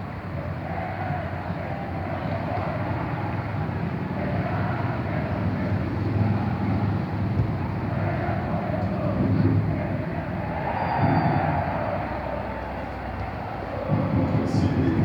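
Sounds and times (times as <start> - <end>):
distant crowd chanting and roaring: 0.0 - 15.0.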